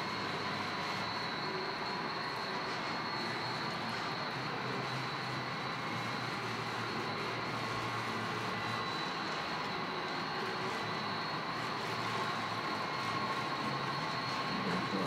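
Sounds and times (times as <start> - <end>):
faint high whine: 0.0 - 15.0
model trains whirring on rails: 0.0 - 15.0.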